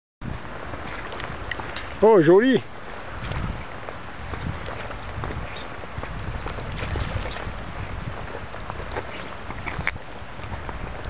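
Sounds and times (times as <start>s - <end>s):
wind buffeting microphone: 0.2s - 11.0s.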